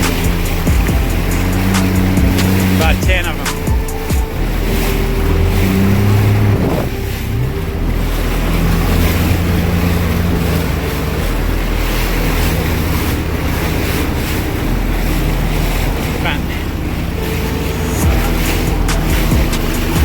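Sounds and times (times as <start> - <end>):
jet ski engine: 0.0 - 20.0
water rushing: 0.0 - 20.0.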